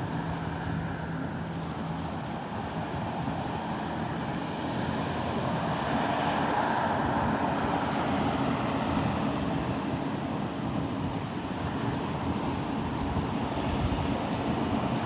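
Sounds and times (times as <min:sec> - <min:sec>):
boat engine hum: 0:00.0 - 0:15.0
water wash: 0:00.0 - 0:15.0
wind noise on microphone: 0:00.0 - 0:15.0.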